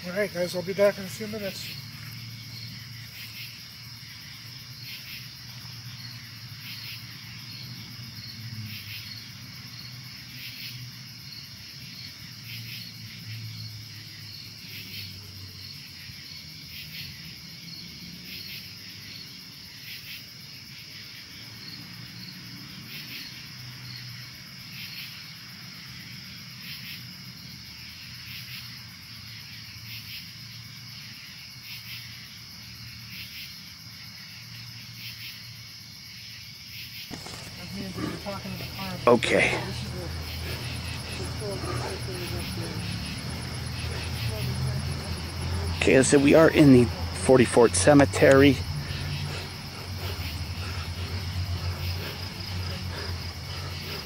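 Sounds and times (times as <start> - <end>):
crickets trilling: 0.0 - 54.0
pulsed insect call: 0.0 - 54.0.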